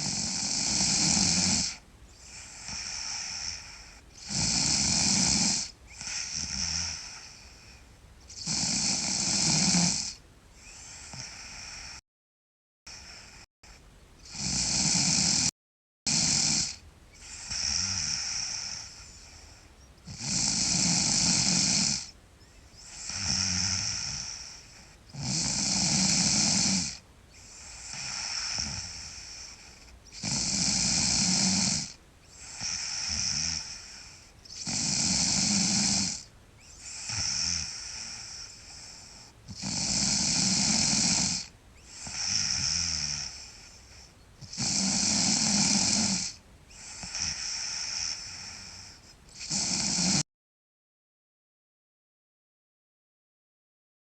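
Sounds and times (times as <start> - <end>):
girl snoring loudly: 0.0 - 7.4, 8.3 - 12.0, 14.2 - 15.5, 16.1 - 19.3, 20.1 - 22.1, 22.8 - 43.7, 44.4 - 50.3.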